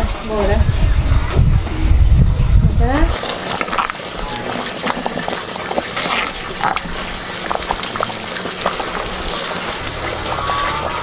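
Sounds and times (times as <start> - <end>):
pot of food bubbling: 0.0 - 11.0.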